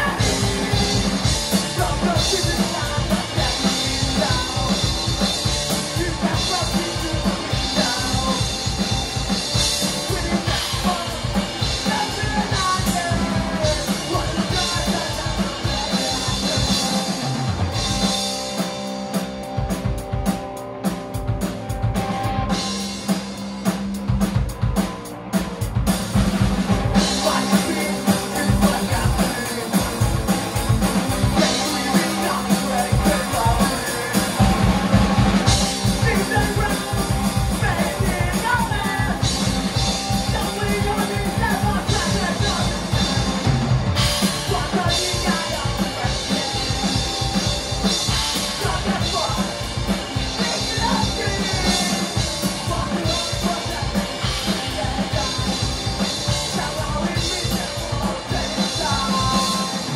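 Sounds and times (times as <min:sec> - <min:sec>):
two people singing: 0:00.0 - 0:18.2, 0:26.9 - 0:59.9
drum kit rapid beat: 0:00.0 - 0:59.9
electric guitar and bass: 0:00.0 - 0:59.9.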